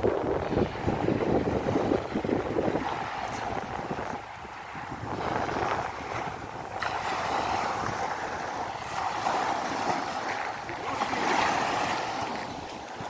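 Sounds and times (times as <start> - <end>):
waves washing onto sand: 0.0 - 13.0
wind on microphone: 0.0 - 13.0.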